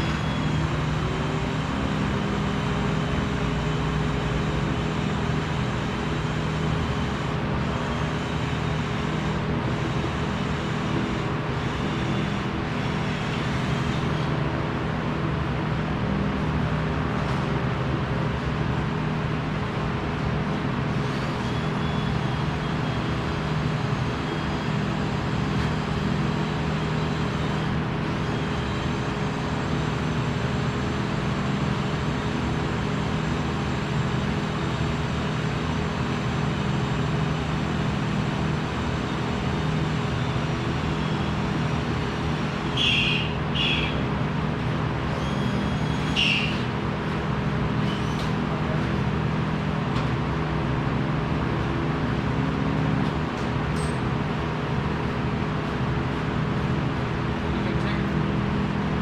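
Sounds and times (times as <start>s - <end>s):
workshop machinery humming: 0.0s - 59.0s.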